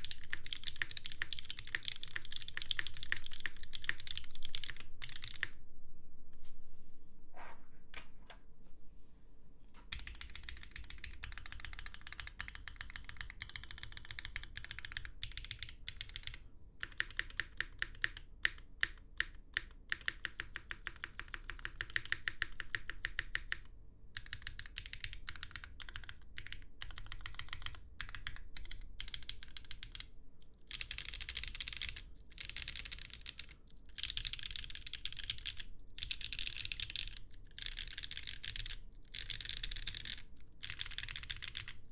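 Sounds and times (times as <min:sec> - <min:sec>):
mechanical keyboard typing: 0:00.0 - 0:05.6, 0:09.9 - 0:30.1, 0:30.7 - 0:41.9.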